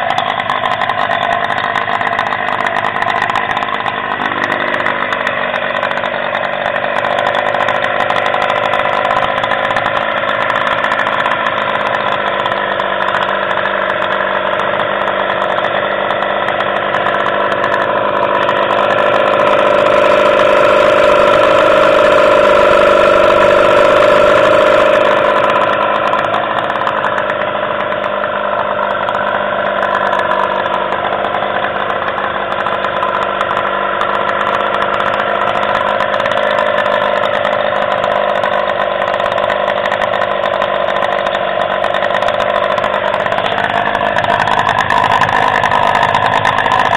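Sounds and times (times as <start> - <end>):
outboard motor idling: 0.0 - 46.9.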